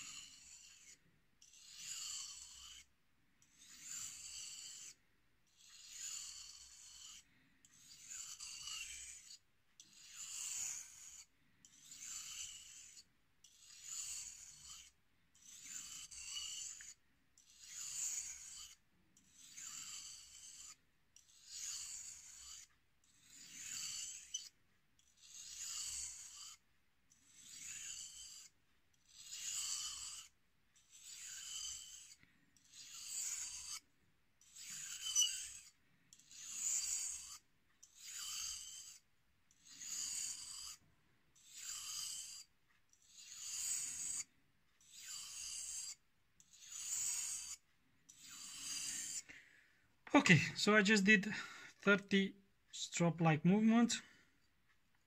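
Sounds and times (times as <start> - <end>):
knife scraping on whetstone: 0.0 - 5.0, 5.6 - 26.6, 27.2 - 49.4.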